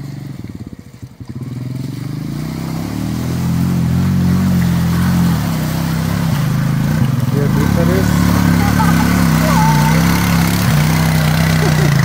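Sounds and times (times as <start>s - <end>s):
atv engine revving: 0.0s - 12.0s
water churning: 0.1s - 12.0s.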